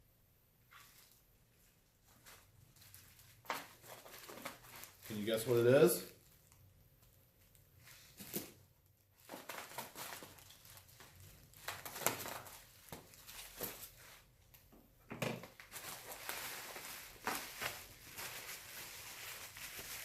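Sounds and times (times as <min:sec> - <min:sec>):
packaging rustling and crinkling: 0:00.7 - 0:14.7, 0:15.3 - 0:20.0.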